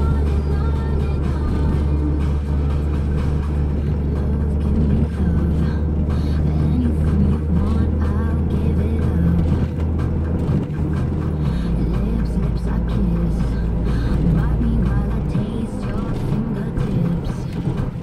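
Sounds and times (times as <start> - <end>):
car engine and road rumble: 0.0 - 18.0
car radio music: 0.0 - 18.0.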